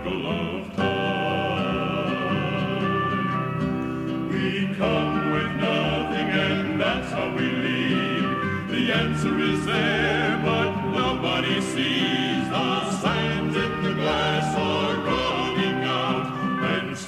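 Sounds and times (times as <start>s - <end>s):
male quartet singing in close harmony: 0.0s - 17.0s.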